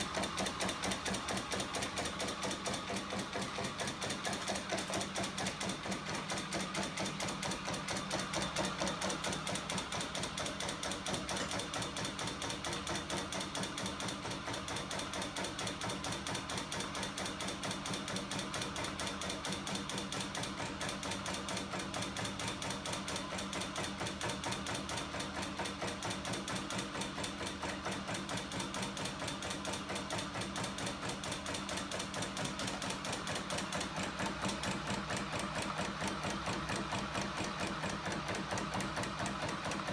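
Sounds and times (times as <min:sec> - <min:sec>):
rapid mechanical clatter: 0:00.0 - 0:39.9.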